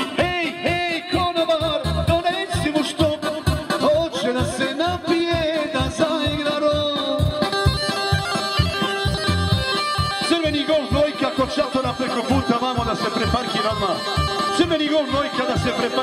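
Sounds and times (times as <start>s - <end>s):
folk dance music over loudspeakers: 0.0s - 16.0s.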